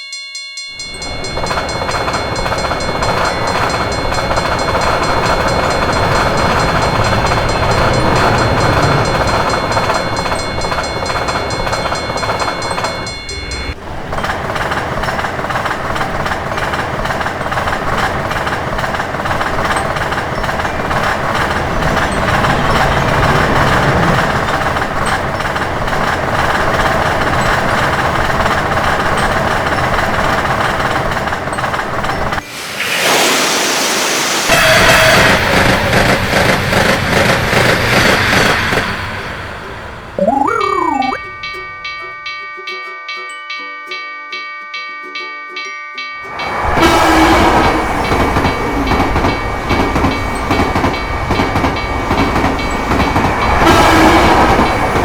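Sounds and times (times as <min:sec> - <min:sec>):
train rumble and rail noise: 0:00.7 - 0:40.2, 0:46.2 - 0:55.0.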